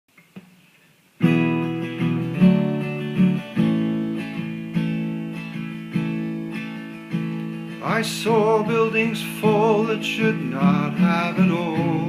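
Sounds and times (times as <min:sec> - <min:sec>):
acoustic guitar strummed chords: 0:01.2 - 0:12.0
faint guitar pluck: 0:01.2 - 0:12.0.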